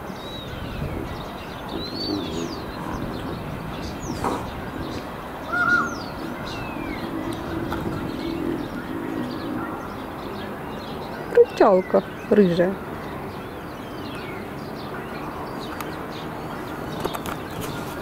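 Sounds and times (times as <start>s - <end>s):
outdoor background noise: 0.0s - 18.0s
small birds chirping: 0.0s - 18.0s
harsh bird call: 0.3s - 17.8s.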